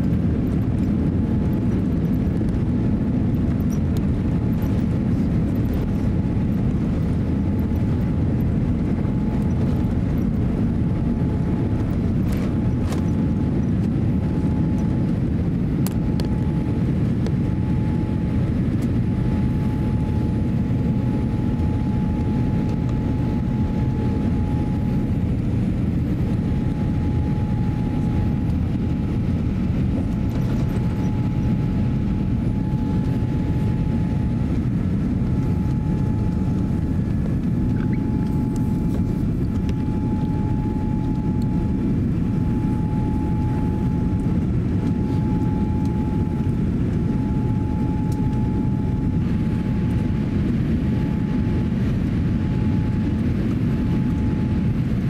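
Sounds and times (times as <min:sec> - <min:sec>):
engines and airflow rushing: 0:00.0 - 0:55.0
thin whine: 0:00.0 - 0:55.0.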